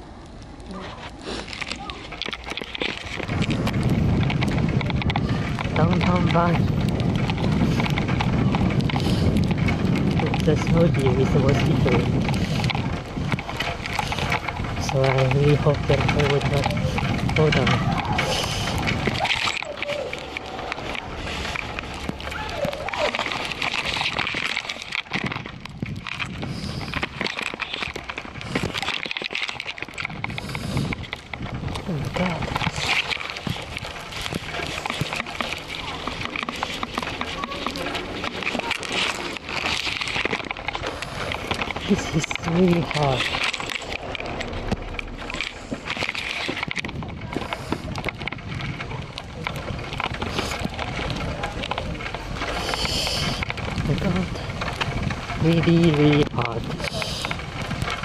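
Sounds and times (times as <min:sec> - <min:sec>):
bicycle tyres crunching snow: 0:00.0 - 0:58.0
low rumble: 0:00.0 - 0:58.0
wind buffeting microphone: 0:00.0 - 0:58.0.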